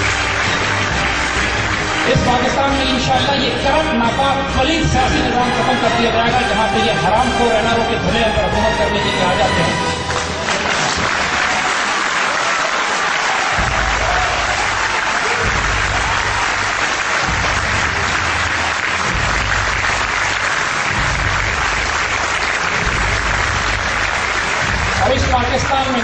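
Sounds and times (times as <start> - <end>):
large audience applauding: 0.0 - 26.0.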